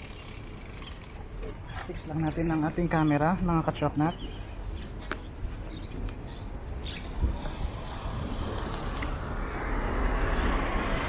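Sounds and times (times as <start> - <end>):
rushing outdoor noise: 0.0 - 11.0.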